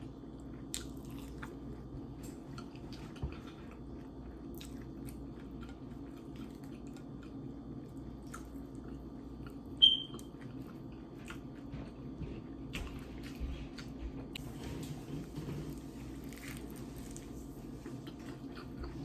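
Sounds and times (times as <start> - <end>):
quiet chewing: 0.1 - 19.0.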